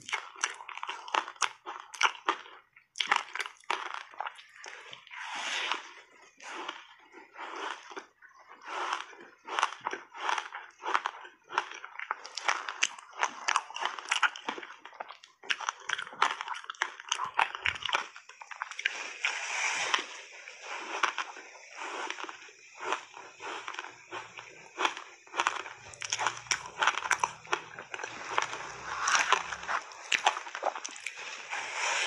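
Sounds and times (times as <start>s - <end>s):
crunching and chewing ice block: 0.0s - 31.4s.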